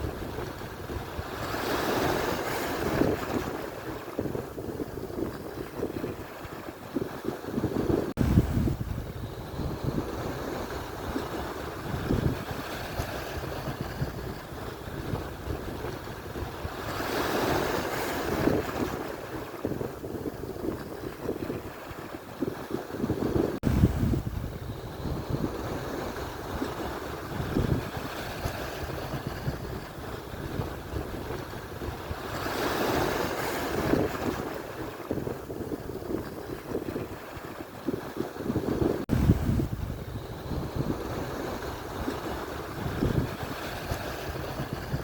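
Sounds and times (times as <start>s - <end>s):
waves breaking on shore: 0.0s - 45.0s
wind buffeting microphone: 0.0s - 45.0s.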